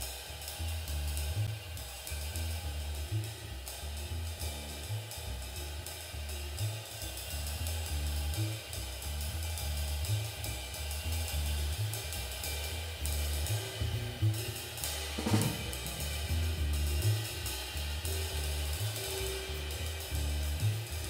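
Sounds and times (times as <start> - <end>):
jazz drum kit with cymbals: 0.0 - 21.0
upright bass notes: 0.0 - 21.0.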